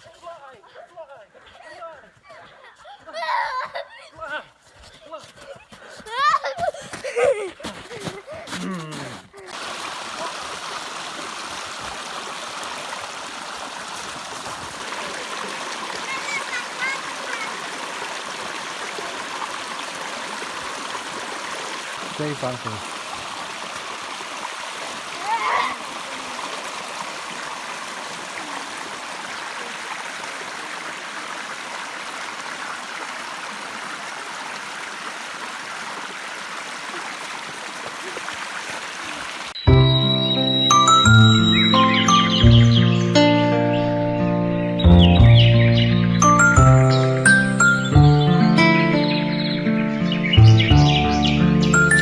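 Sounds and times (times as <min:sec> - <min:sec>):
stream flowing: 0:09.4 - 0:45.3, 0:46.1 - 0:52.0.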